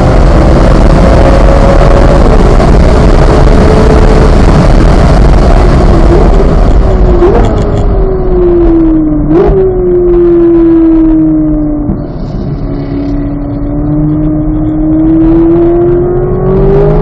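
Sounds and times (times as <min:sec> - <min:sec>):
car engine slowing with blips: 0:00.0 - 0:17.0
wind and road noise: 0:00.0 - 0:17.0.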